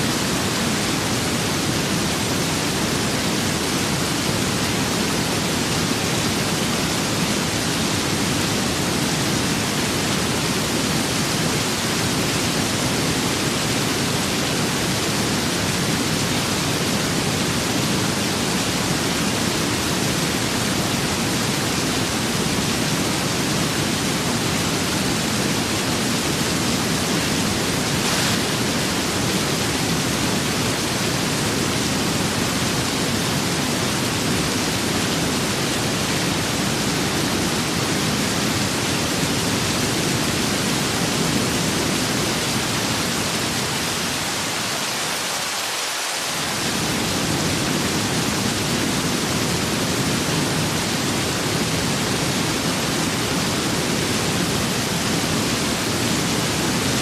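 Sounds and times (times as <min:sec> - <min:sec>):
rain: 0:00.0 - 0:57.0
wind: 0:00.0 - 0:57.0.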